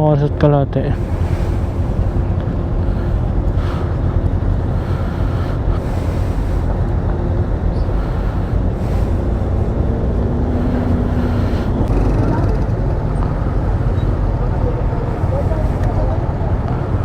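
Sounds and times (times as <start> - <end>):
ferry engines rumbling: 0.0 - 17.0
wind noise on microphone: 0.8 - 17.0.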